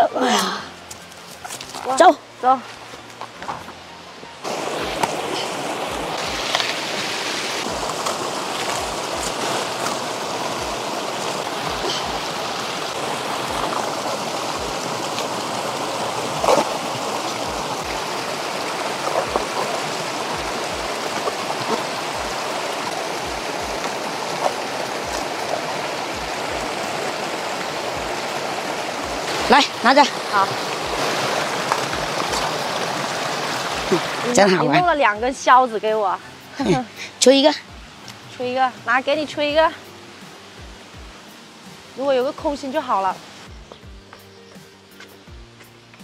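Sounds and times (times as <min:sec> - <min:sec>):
stream babbling over rocks: 0:04.4 - 0:43.6.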